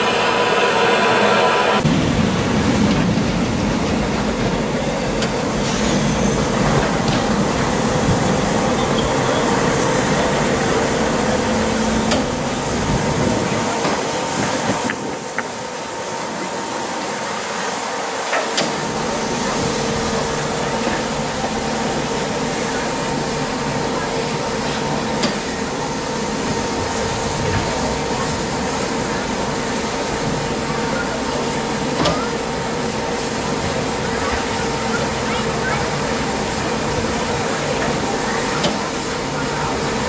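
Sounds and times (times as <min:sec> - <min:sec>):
locomotive hum and whine: 0:00.0 - 0:40.0.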